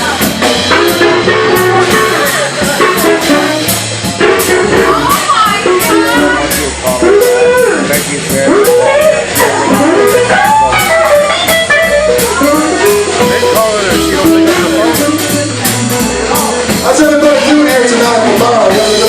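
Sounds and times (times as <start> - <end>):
electric guitar solo: 0.0 - 18.0
bass guitar: 0.0 - 19.0
drum kit cymbal beat: 0.0 - 19.0.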